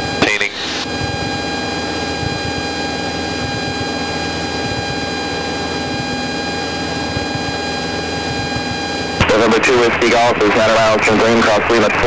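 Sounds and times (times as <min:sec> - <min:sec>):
airplane engine and propeller droning: 0:00.0 - 0:12.0
high whine: 0:00.0 - 0:12.0.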